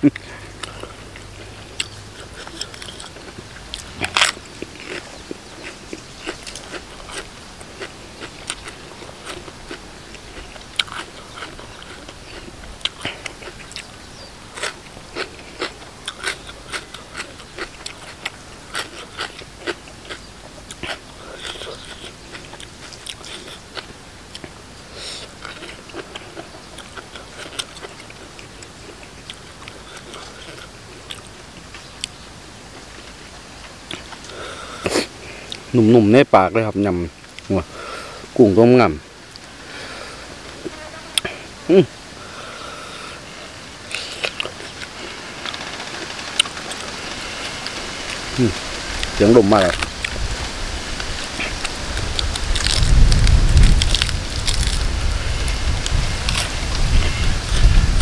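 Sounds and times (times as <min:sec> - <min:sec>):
person chewing crunchy food: 0:00.0 - 0:35.8, 0:39.3 - 0:58.0.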